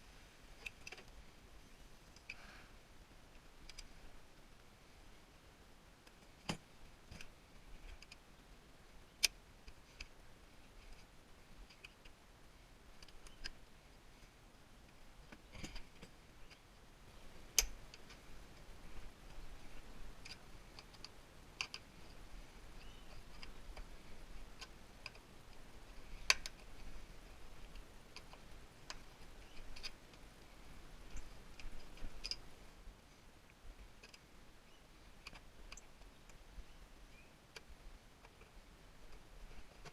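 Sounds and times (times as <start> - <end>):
faint clicks and ticks: 2.0 - 2.5, 3.3 - 4.7, 6.0 - 8.4, 9.1 - 12.2, 12.9 - 32.8, 33.4 - 34.4, 35.0 - 36.7, 37.3 - 39.9.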